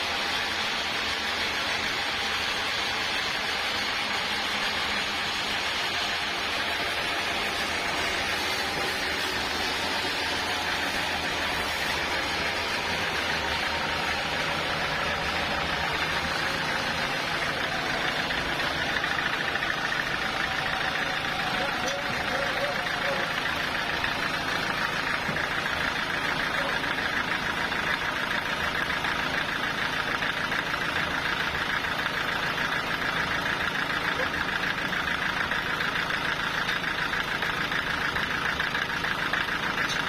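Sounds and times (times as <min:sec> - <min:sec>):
sawmill machinery humming: 0:00.0 - 0:40.0.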